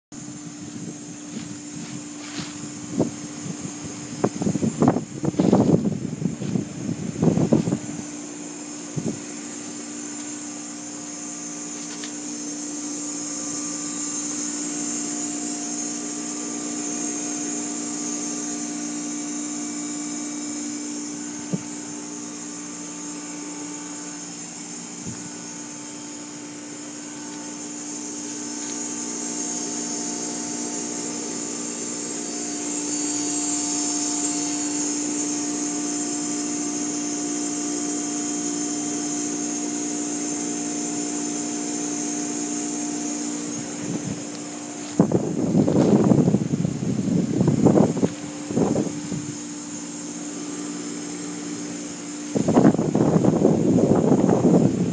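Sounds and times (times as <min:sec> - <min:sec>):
heat pump low hum: 0:00.1 - 0:54.9
heat pump hissing: 0:00.2 - 0:54.9.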